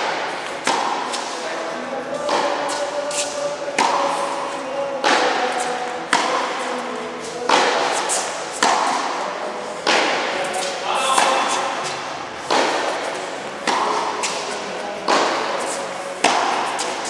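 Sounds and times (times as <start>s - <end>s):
tennis rackets hitting ball: 0.0s - 17.0s.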